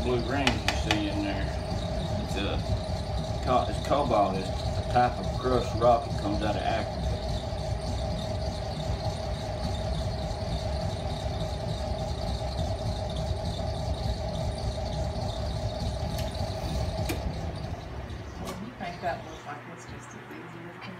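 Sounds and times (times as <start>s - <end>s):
potter's wheel squealing: 0.0s - 19.2s.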